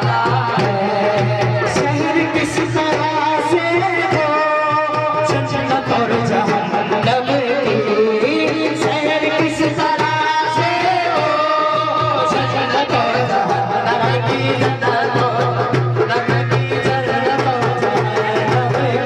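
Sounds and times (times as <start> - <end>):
devotional singing over loudspeakers: 0.0 - 19.0
hand drum rhythm: 0.0 - 19.0.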